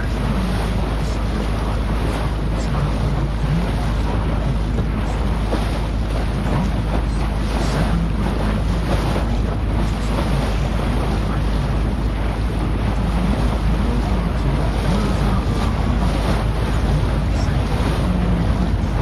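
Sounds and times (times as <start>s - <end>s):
boat motor running: 0.0s - 19.0s
water rushing along hull: 0.0s - 19.0s
wind buffeting microphone: 0.0s - 19.0s.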